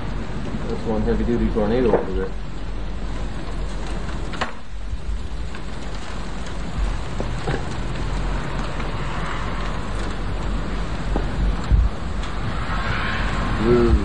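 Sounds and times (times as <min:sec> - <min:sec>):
heavy rain hissing: 0:00.0 - 0:14.0
low thunder rumble: 0:00.0 - 0:14.0.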